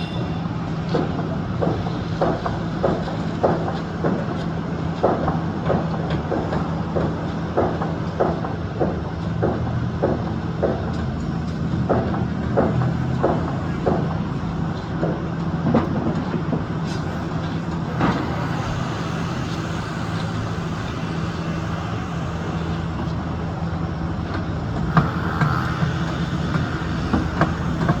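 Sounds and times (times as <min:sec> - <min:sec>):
construction machinery diesel drone: 0:00.0 - 0:28.0.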